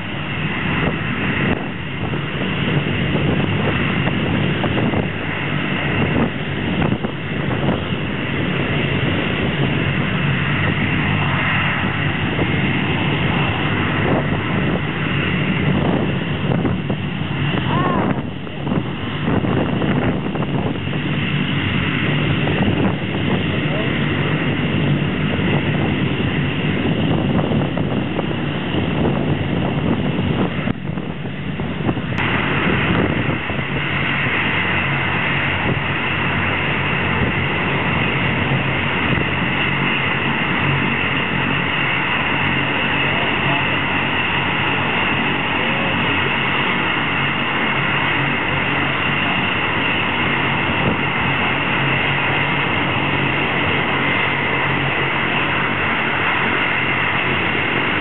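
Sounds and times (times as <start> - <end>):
jet engine turbine whine: 0.0 - 58.0.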